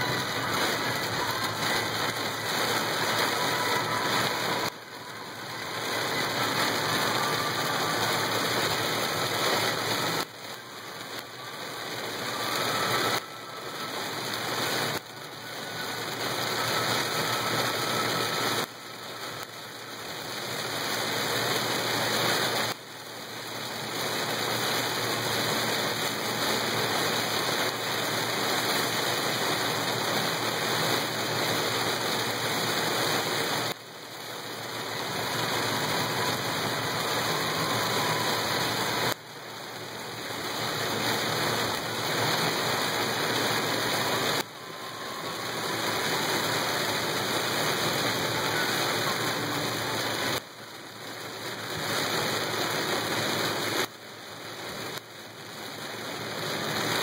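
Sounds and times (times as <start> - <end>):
heavy rain on car roof: 0.0 - 57.0
tyre noise on wet road: 0.0 - 57.0.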